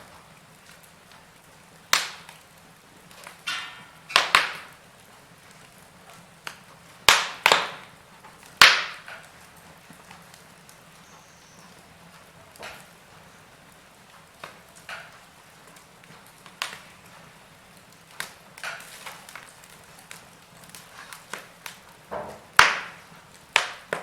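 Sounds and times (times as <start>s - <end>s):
logs crackling and popping: 0.0s - 24.0s.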